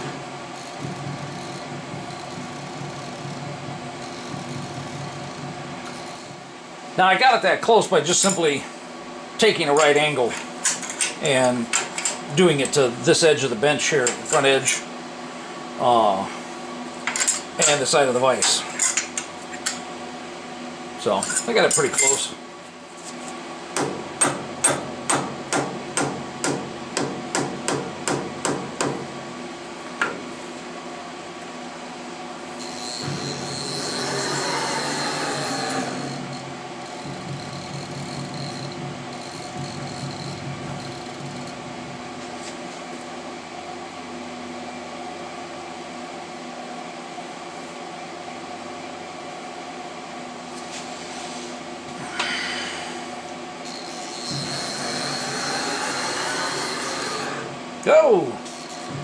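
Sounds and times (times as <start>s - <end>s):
milling machine humming: 0.0s - 18.7s, 19.6s - 45.1s, 51.5s - 59.0s.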